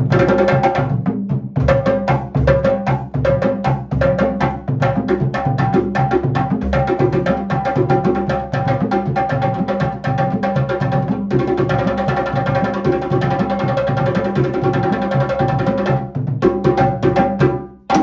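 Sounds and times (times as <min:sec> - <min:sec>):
hand drumming: 0:00.0 - 0:18.0.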